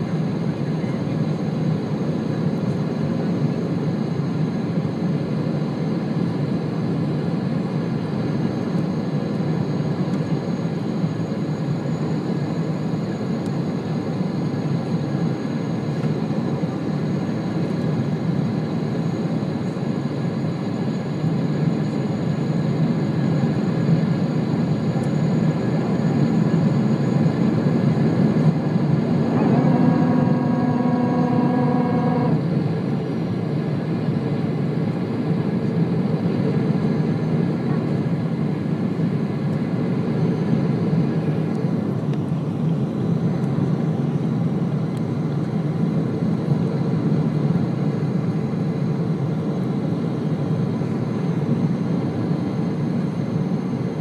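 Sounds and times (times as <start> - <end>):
aircraft cabin engine and airflow noise: 0.0 - 54.0
steady humming tone: 0.0 - 54.0.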